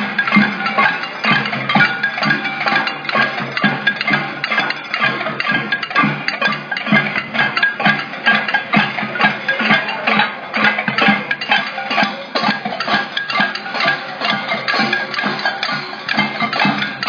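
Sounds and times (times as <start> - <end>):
music with percussive beat: 0.0 - 17.0.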